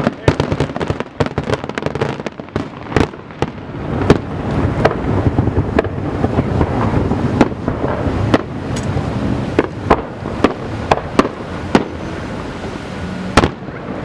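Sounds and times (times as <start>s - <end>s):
fireworks bangs: 0.0s - 14.0s
fireworks rumble and crackle: 0.0s - 14.0s.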